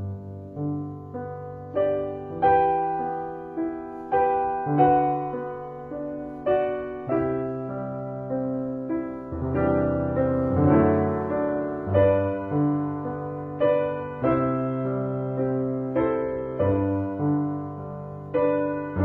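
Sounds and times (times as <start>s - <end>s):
piano notes and chords: 0.0s - 19.0s.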